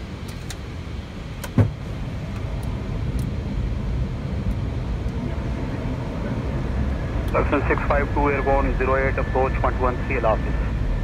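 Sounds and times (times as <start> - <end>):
airflow and engine noise: 0.0 - 11.0.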